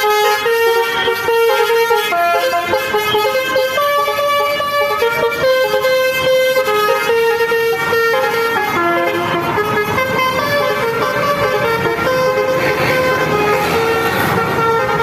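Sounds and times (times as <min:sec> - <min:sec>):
multi-tone bus horn playing tune: 0:00.0 - 0:15.0.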